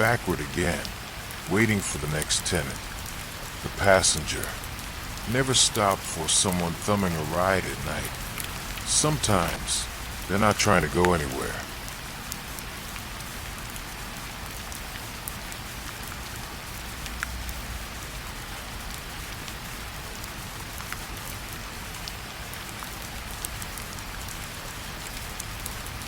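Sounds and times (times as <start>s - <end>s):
raindrops ticking sharply: 0.0s - 26.0s
steady rain falling: 0.0s - 26.0s.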